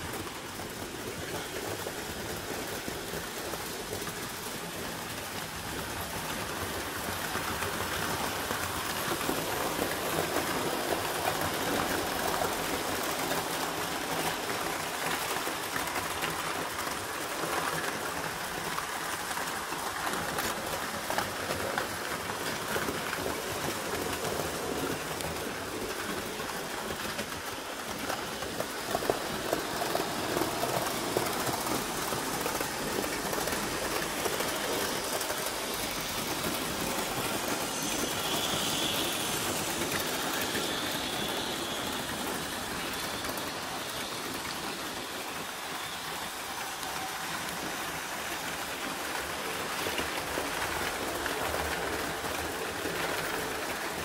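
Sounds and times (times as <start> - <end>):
model train wheels hissing: 0.0 - 54.0.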